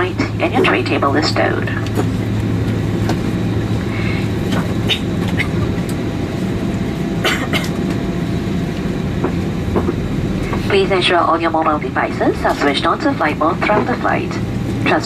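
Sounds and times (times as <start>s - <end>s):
aircraft cabin rumble: 0.0s - 15.0s
low hum: 0.0s - 15.0s.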